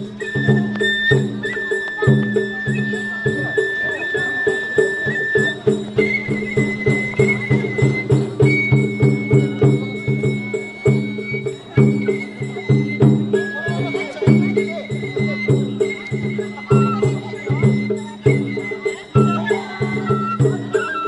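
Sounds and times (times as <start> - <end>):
bamboo flute high notes: 0.0 - 21.0
drums and clanging percussion: 0.0 - 21.0.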